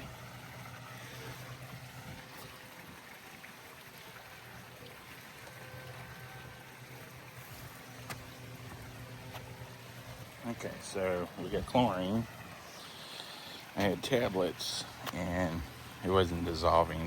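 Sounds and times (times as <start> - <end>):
pump humming: 0.0 - 17.0
water flowing: 0.0 - 17.0.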